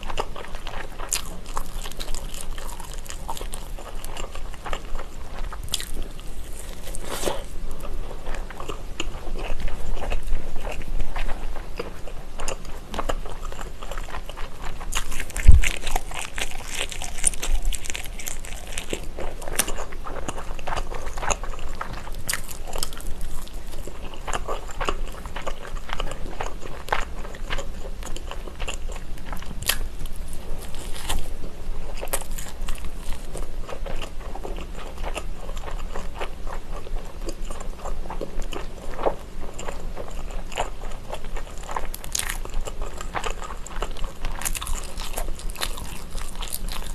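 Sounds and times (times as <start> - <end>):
crunching and chewing fried food: 0.0 - 46.9.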